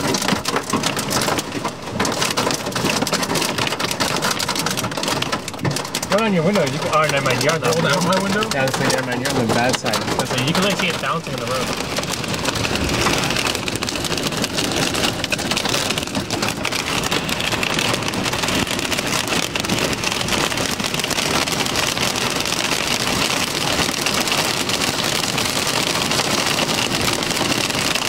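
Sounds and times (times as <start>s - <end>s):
heavy rain on a car: 0.0s - 28.0s.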